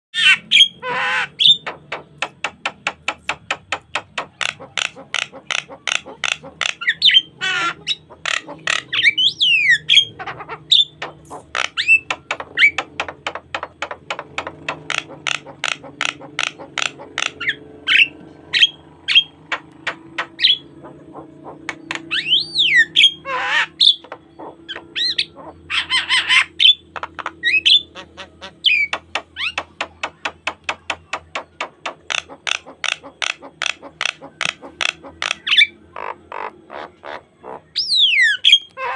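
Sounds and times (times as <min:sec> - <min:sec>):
bird harsh squawking calls: 0:00.1 - 0:38.9
bird singing varied song: 0:00.1 - 0:38.9.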